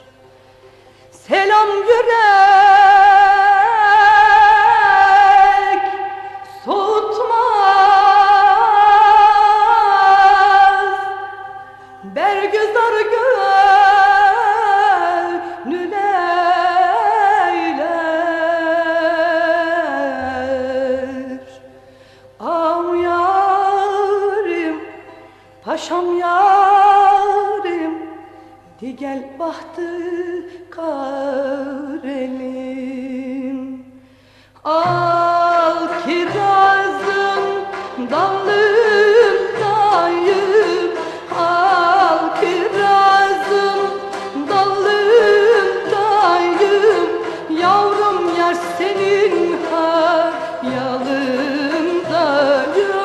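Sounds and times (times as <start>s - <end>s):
woman singing folk song: 1.1s - 53.0s.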